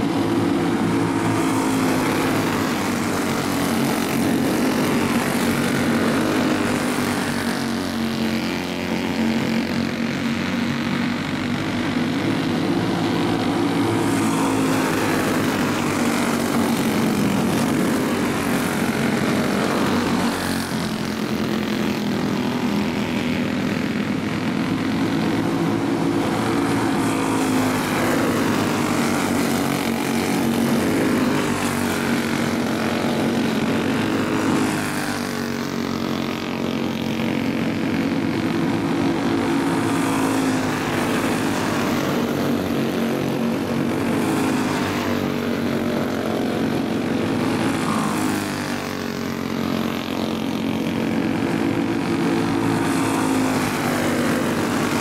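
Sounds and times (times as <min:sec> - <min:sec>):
go-kart engines racing: 0:00.0 - 0:55.0.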